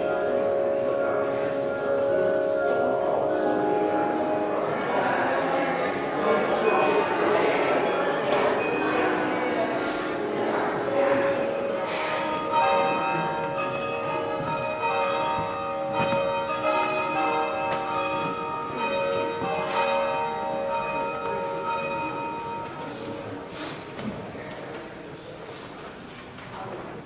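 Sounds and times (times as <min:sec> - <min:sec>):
church bells ringing: 0:00.0 - 0:23.6.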